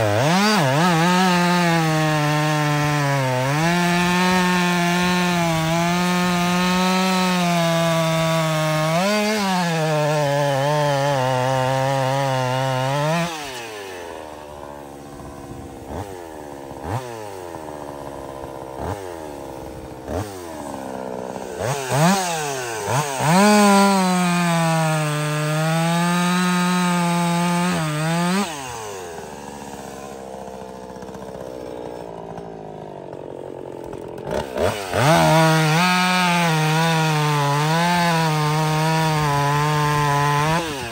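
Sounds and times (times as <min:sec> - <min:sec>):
chainsaw cutting wood: 0:00.0 - 0:40.9
chainsaw idling: 0:00.0 - 0:40.9.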